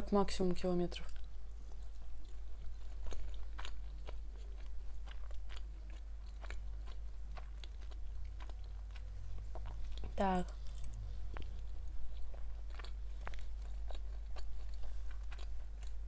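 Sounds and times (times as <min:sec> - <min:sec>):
person chewing food: 0:01.0 - 0:16.0.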